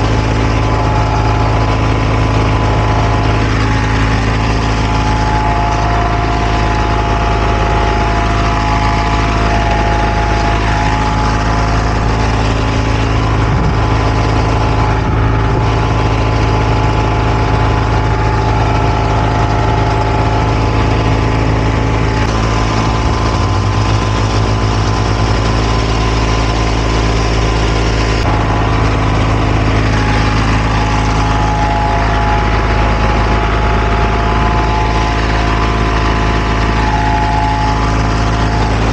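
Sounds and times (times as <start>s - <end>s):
heavy diesel engine running: 0.0s - 38.9s
steady engine tones: 0.0s - 38.9s.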